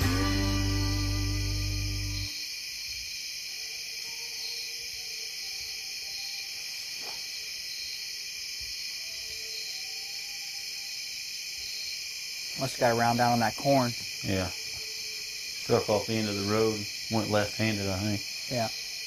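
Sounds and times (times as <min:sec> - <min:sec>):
crickets and katydids trilling: 0:00.0 - 0:19.0.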